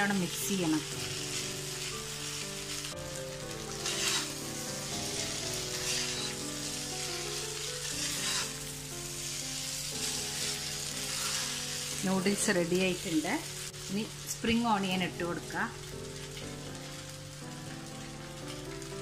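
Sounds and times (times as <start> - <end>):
noodles sizzling in a wok: 0.0 - 19.0.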